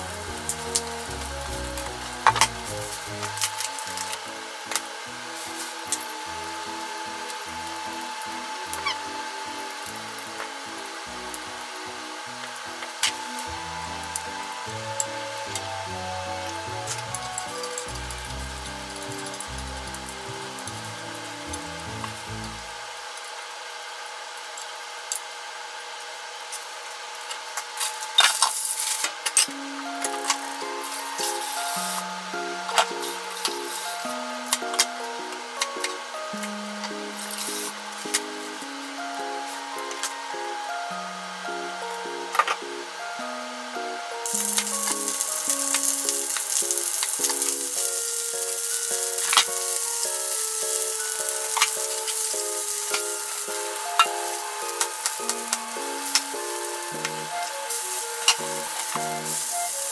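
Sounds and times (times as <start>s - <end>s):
light background melody: 0.0s - 23.1s, 28.2s - 59.9s
hot oil sizzling: 0.0s - 59.9s.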